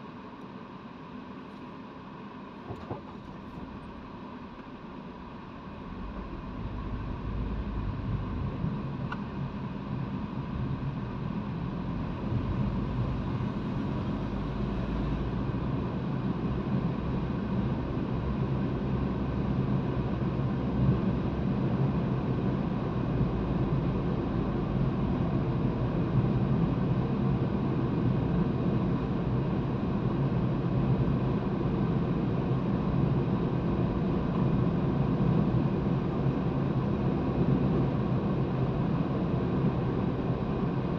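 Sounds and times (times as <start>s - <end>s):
car engine from inside cabin: 0.0s - 40.9s.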